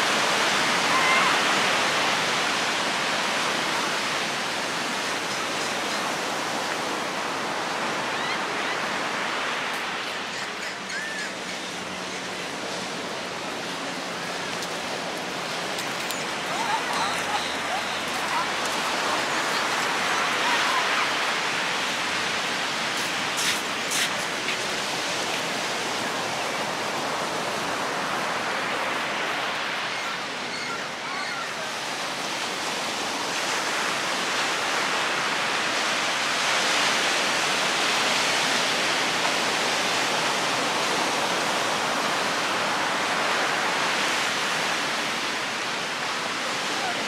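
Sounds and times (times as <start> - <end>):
waves breaking on a beach: 0.0 - 47.0.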